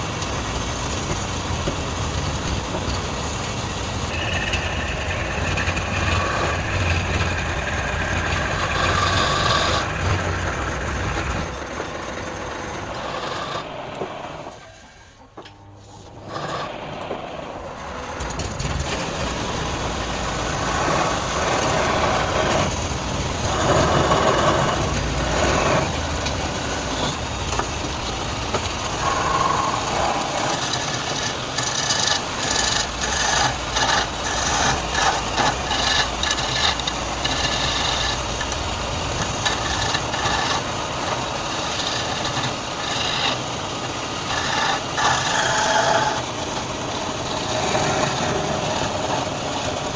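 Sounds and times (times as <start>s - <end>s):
wood lathe motor hum: 0.0s - 14.9s, 16.0s - 17.1s, 17.8s - 49.9s
turning tool scraping wood: 1.0s - 12.0s, 12.9s - 13.7s, 15.8s - 16.9s, 18.3s - 49.9s.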